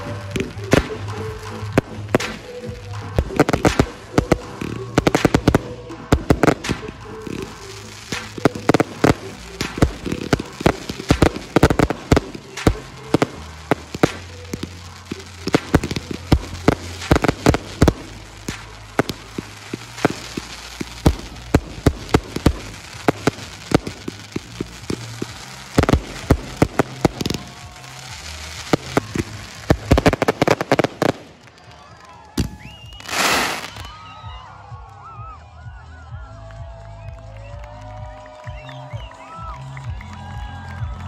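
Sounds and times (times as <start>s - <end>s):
fireworks bangs: 0.0s - 34.2s
fireworks crackling: 0.0s - 35.2s.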